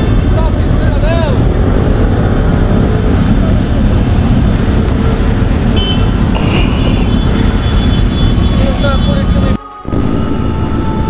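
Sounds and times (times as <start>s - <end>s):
motorcycle engines rumbling: 0.0s - 11.0s
wind noise on microphone: 0.0s - 11.0s.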